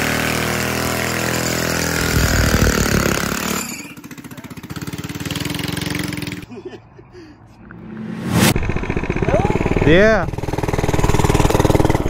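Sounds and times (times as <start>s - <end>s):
mini bike engine running: 0.0s - 6.4s, 8.6s - 12.0s.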